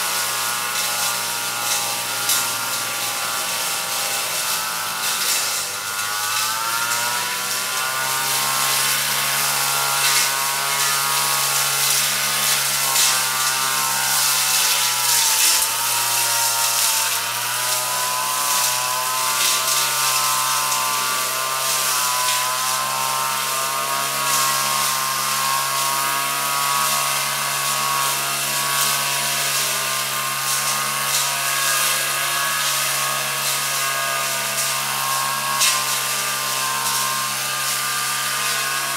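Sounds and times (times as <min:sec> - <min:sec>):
brush cutter engine cutting weeds: 0:00.0 - 0:38.9.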